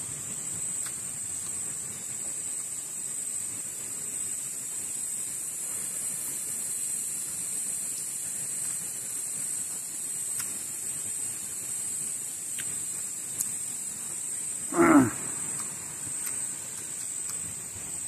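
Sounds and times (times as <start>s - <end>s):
insects droning: 0.0s - 18.0s
soft hiss: 0.0s - 18.0s.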